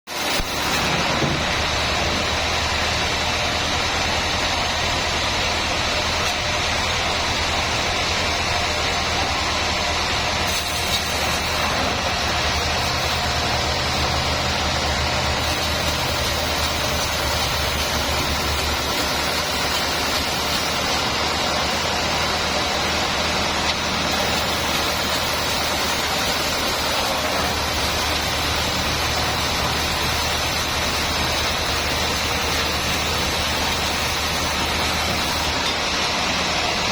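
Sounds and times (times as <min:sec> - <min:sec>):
loud machinery hiss: 0:00.1 - 0:36.9.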